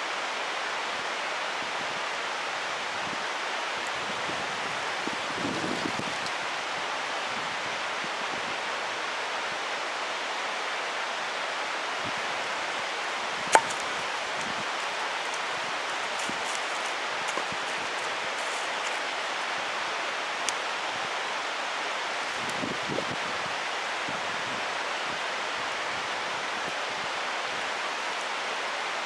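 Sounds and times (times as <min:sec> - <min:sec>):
mountain stream flowing: 0:00.0 - 0:29.0.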